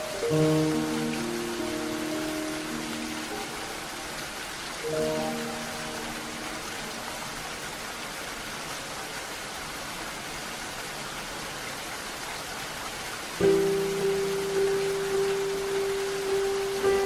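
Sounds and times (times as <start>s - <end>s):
steady rainfall hiss: 0.0s - 17.0s.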